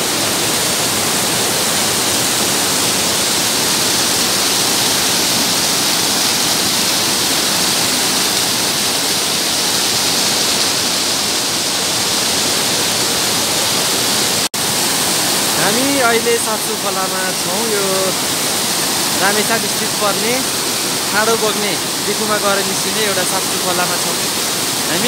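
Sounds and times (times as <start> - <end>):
mountain stream rushing over boulders: 0.0 - 25.0.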